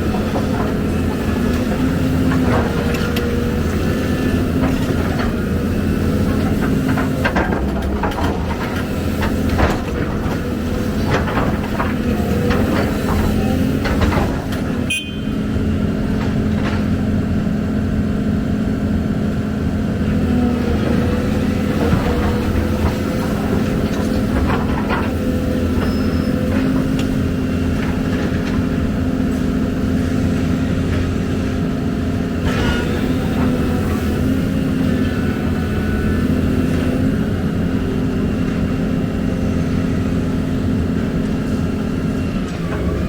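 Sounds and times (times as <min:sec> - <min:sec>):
diesel excavator engine running: 0:00.0 - 0:43.0.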